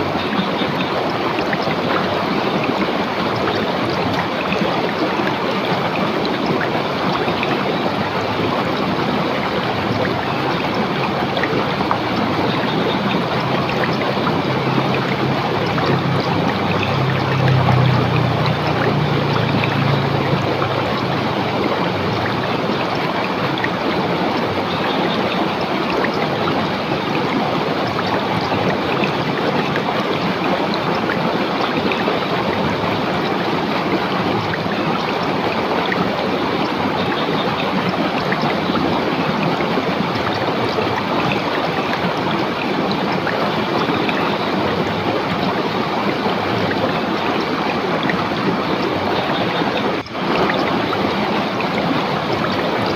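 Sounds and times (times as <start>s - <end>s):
river water rushing over rocks: 0.0s - 52.9s.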